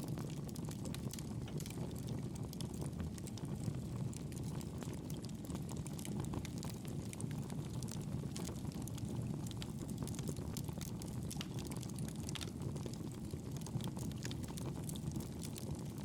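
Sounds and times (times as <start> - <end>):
campfire flames rumbling: 0.0 - 16.0
wood crackling and popping: 0.0 - 16.0.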